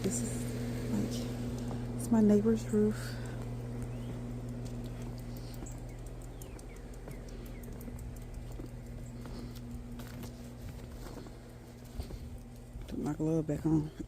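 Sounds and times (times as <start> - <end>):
air conditioner humming: 0.0 - 14.0
light clicks and patter: 0.0 - 14.0.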